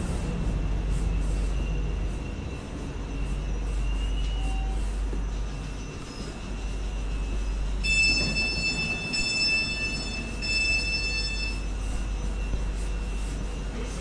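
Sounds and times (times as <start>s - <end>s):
constant low rumble: 0.0s - 14.0s
train high steady whine: 0.0s - 14.0s.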